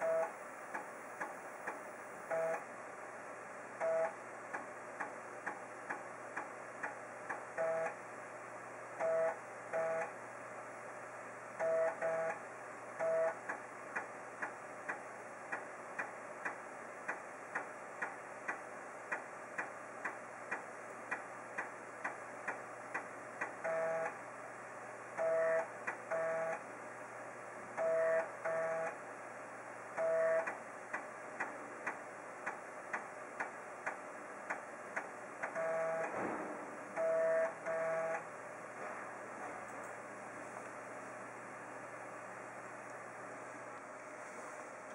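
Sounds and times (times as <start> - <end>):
floppy drive motor hum: 0.0 - 44.9.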